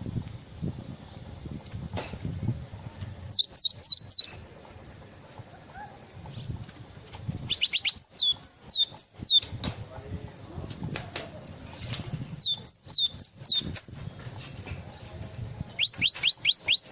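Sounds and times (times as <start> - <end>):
songbird singing: 0.0 - 9.6, 11.2 - 14.2, 14.8 - 16.9.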